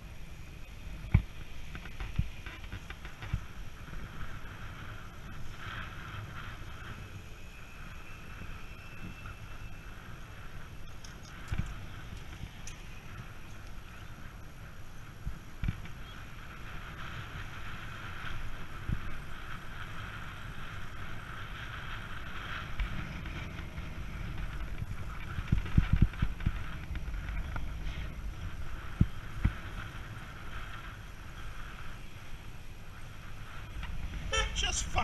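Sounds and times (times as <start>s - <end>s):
tyre and road noise: 0.0s - 35.0s
wind buffeting microphone: 0.0s - 35.0s.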